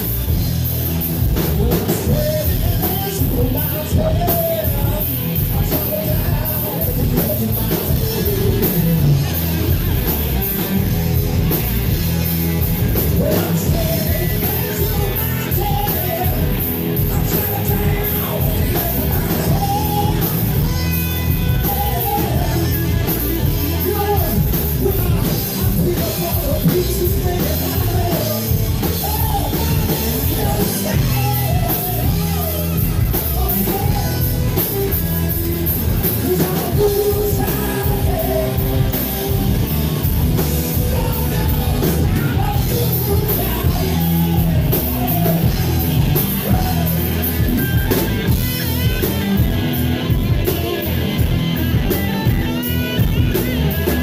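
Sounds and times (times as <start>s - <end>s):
bass guitar: 0.0s - 54.0s
drum kit: 0.0s - 54.0s
electric guitars: 0.0s - 54.0s
man singing: 1.2s - 11.0s, 11.7s - 49.4s.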